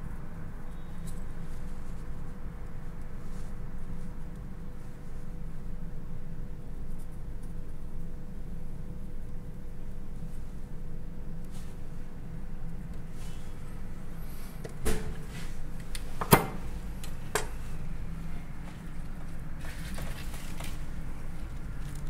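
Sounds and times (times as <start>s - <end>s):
low steady background hum: 0.0s - 22.0s.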